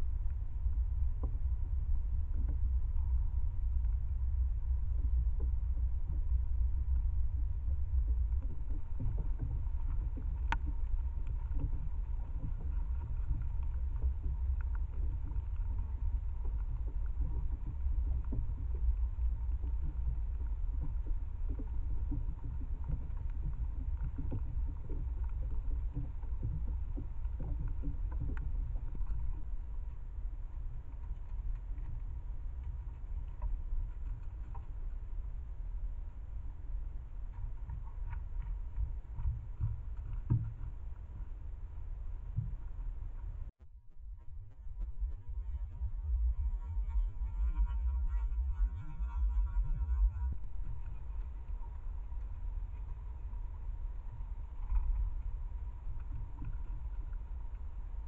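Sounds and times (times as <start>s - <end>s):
low rumble: 0.0s - 58.0s.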